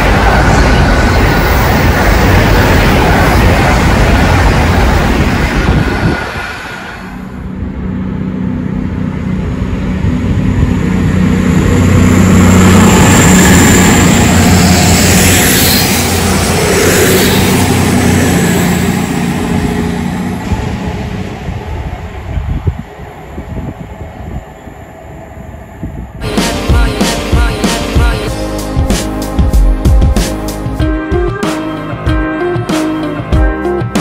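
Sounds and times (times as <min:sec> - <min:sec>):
diesel engines droning: 0:00.0 - 0:29.3
rail and wheel noise: 0:00.0 - 0:34.0.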